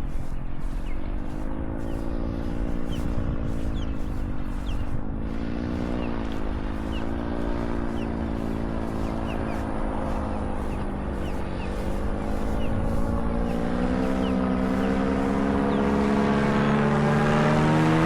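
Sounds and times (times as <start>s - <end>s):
paraglider motor flying overhead: 0.0s - 18.0s.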